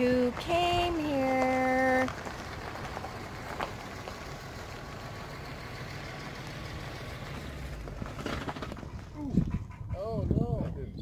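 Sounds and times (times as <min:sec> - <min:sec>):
truck engine running at low revs: 0:00.0 - 0:11.0.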